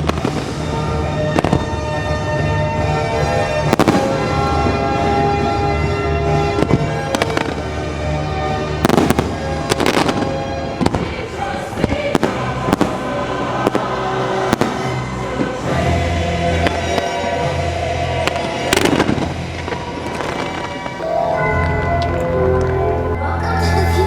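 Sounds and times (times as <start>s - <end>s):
fireworks bursting: 0.0s - 22.8s
loud music: 0.0s - 24.0s.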